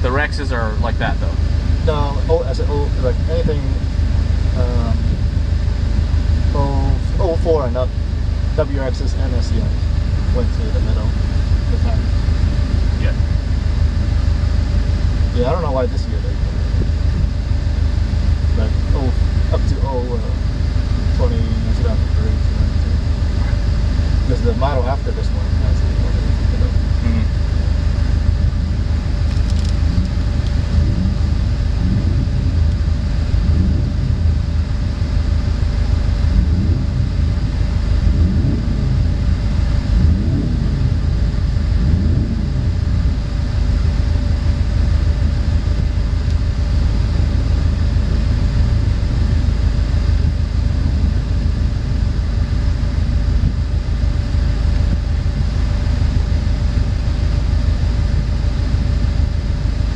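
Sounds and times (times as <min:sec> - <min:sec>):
car engine idling: 0:00.0 - 0:59.9
faint constant hum: 0:00.0 - 0:59.9.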